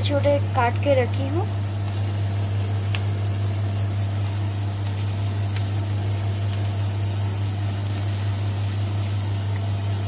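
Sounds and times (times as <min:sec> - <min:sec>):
low electrical hum: 0:00.0 - 0:10.0
onions sizzling in oil: 0:00.0 - 0:10.0.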